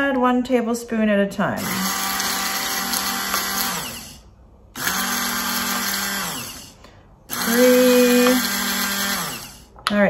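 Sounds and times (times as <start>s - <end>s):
immersion blender motor running: 1.6s - 9.8s.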